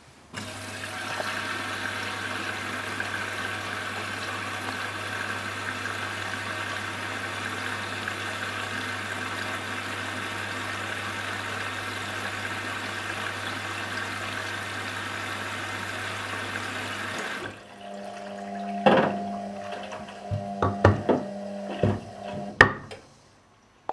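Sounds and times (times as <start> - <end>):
washing machine running: 0.4 - 22.9.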